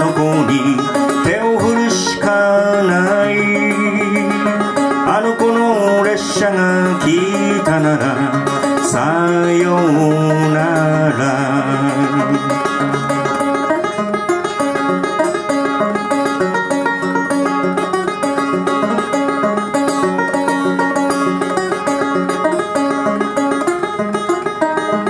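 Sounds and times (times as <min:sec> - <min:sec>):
solo banjo playing: 0:00.0 - 0:25.0.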